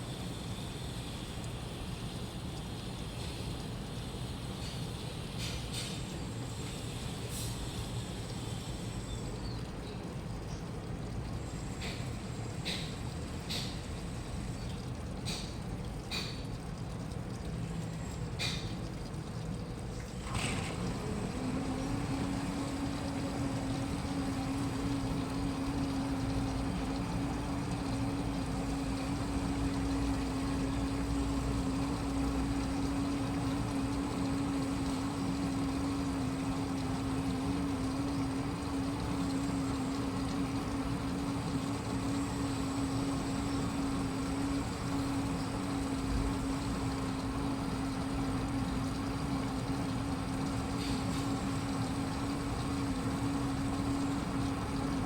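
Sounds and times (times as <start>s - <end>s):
washing machine humming: 0.0s - 55.0s.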